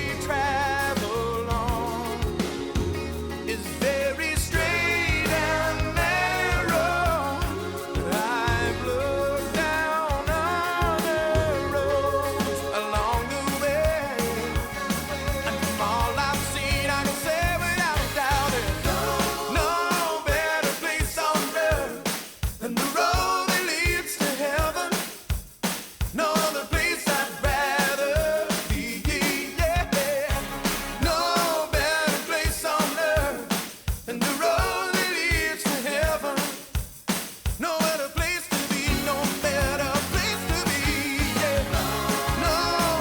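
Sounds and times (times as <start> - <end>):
pop-rock band music: 0.0 - 43.0
steady drum beat: 0.0 - 43.0.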